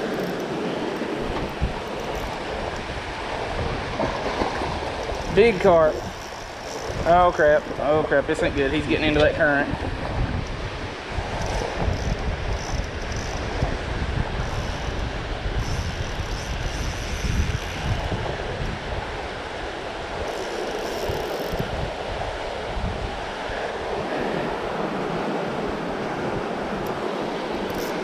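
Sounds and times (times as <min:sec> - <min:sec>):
rushing creek current: 0:00.0 - 0:28.0
wind buffeting microphone: 0:00.0 - 0:28.0.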